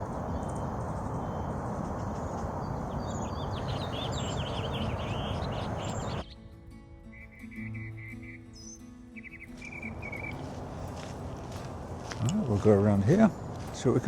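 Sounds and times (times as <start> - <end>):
small birds chirping: 0.0 - 6.5, 7.1 - 14.0.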